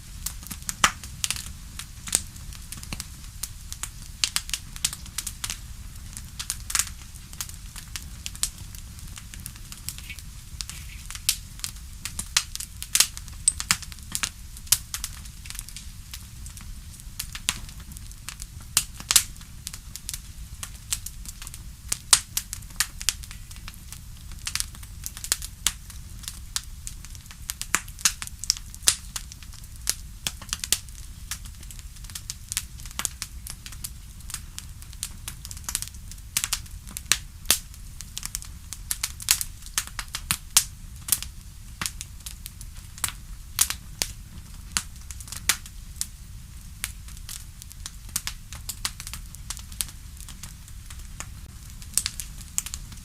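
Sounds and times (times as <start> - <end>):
bonfire crackling and popping: 0.0 - 53.0
low rumble of burning fire: 0.0 - 53.0.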